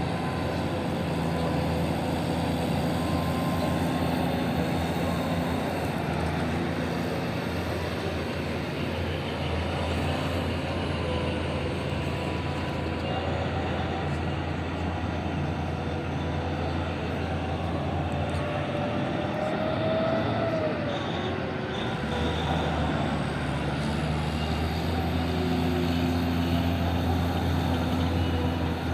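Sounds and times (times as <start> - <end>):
faint machine whine: 0.0 - 28.9
heavy diesel machinery drone: 0.0 - 28.9.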